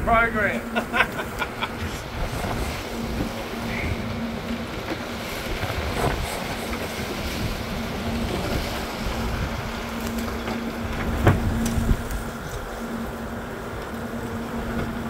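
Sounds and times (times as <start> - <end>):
boat engines droning: 0.0 - 15.0
water churning at stern: 0.0 - 15.0
wind rushing: 0.0 - 15.0.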